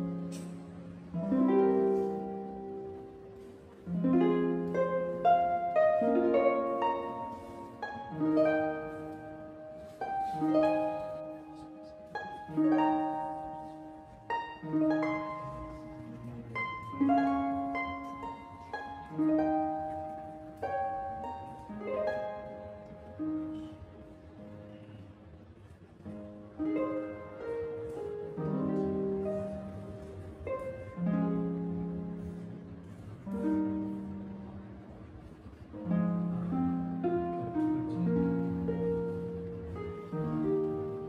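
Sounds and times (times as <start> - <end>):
gentle plucked string melody: 0.0 - 41.0.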